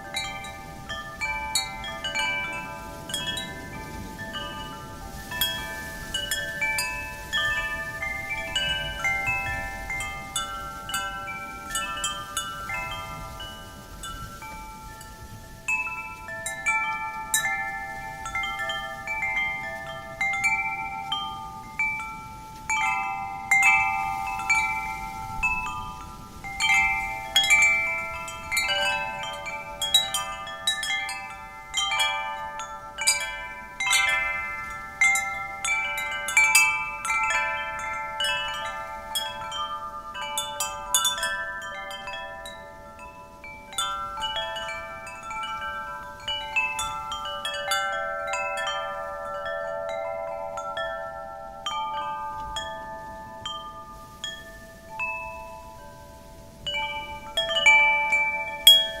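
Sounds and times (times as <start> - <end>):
faint wind: 0.0 - 59.0
wind chimes ringing: 0.0 - 59.0.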